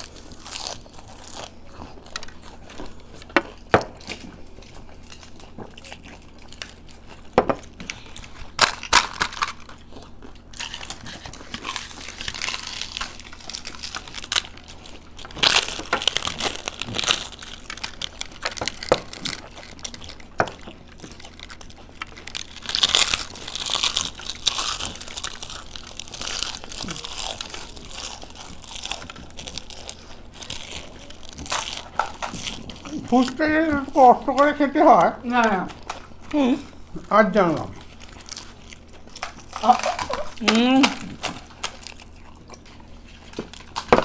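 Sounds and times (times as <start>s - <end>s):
crisp shells crunching when bitten: 0.0s - 44.0s.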